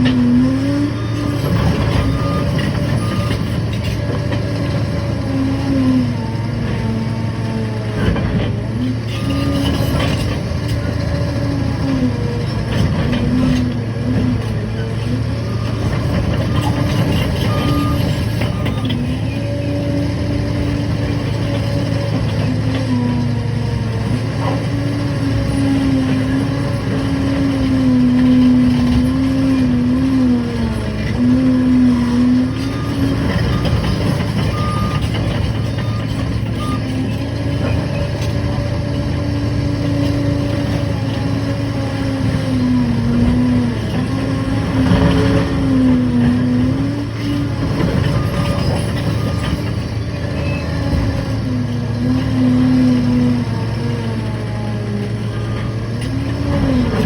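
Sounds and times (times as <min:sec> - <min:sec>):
bulldozer diesel engine hum: 0:00.0 - 0:57.0.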